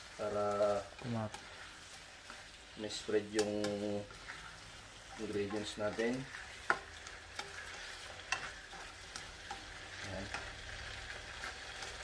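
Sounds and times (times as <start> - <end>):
prawns sizzling in a pan: 0.0 - 12.0
spatula scraping a pan: 0.0 - 12.0.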